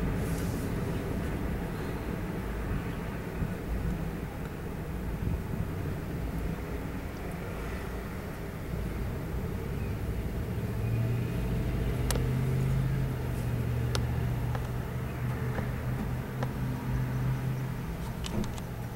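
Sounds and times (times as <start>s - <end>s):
locomotive engine drone: 0.0s - 18.9s
train rumble: 0.0s - 18.9s.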